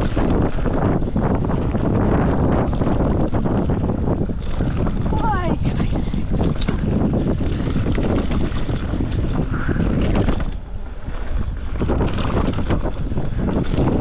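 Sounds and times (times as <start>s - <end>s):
bike rattling and knocking: 0.0s - 14.0s
low rumble: 0.0s - 14.0s
wind buffeting microphone: 0.0s - 14.0s.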